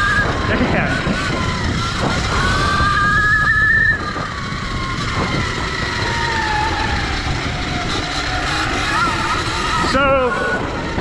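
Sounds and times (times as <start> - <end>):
electric motor whining: 0.0 - 11.0
wind and tyres rumbling on dirt: 0.0 - 11.0.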